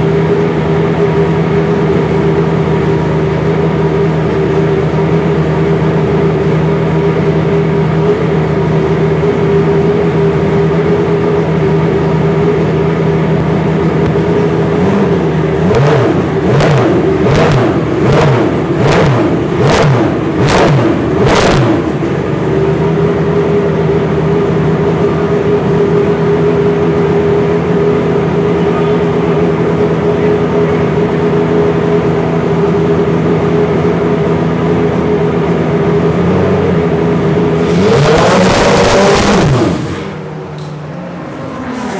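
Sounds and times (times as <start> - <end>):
racing car engine revving: 0.0 - 41.9.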